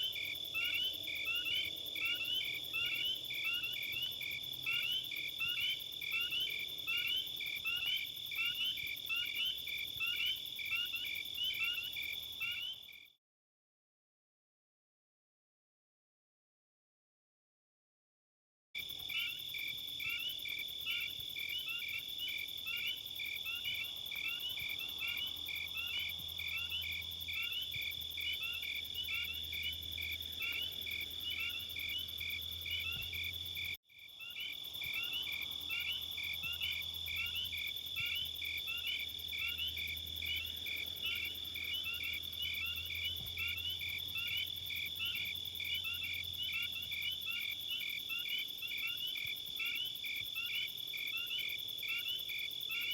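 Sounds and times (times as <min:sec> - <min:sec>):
insect trill: 0:00.0 - 0:13.2, 0:18.8 - 0:52.9
rapid insect chirps: 0:00.0 - 0:13.2, 0:18.8 - 0:52.9.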